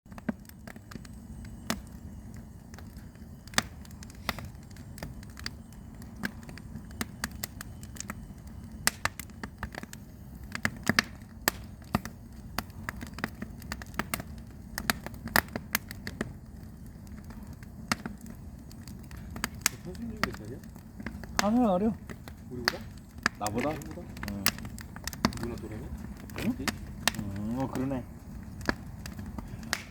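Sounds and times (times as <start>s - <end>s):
firewood crackling and popping: 0.1s - 29.9s
low fire rumble: 0.1s - 29.9s.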